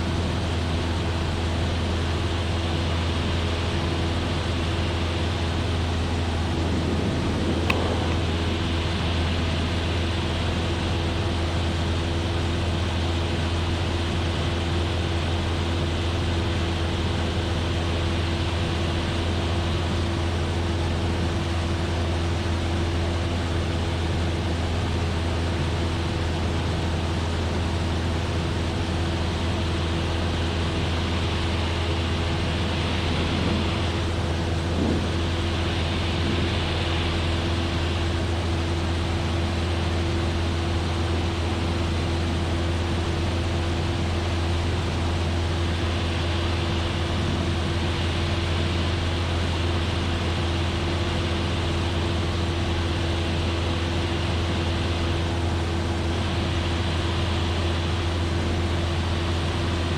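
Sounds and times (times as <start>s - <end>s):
airplane engine droning: 0.0s - 59.9s.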